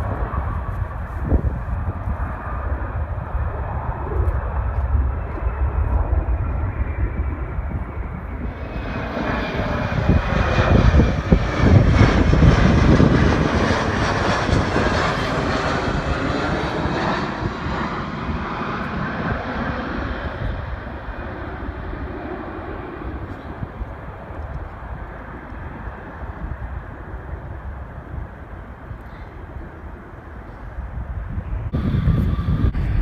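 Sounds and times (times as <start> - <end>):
jet airliner passing: 0.0 - 33.0.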